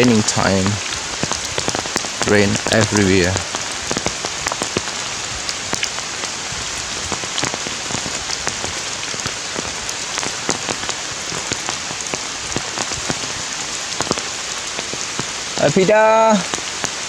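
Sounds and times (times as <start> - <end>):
heavy rain hissing: 0.0 - 17.0
raindrops splatting on surfaces: 0.0 - 17.0.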